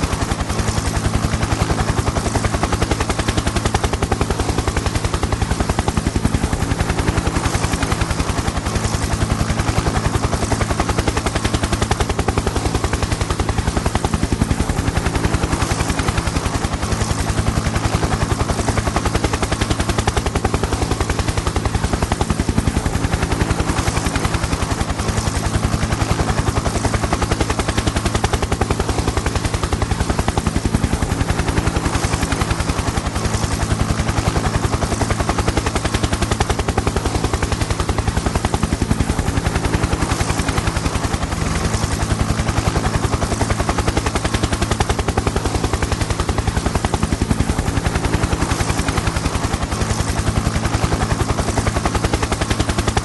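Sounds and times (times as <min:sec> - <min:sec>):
helicopter engine hum: 0:00.0 - 0:53.0
helicopter rotor beating: 0:00.0 - 0:53.0.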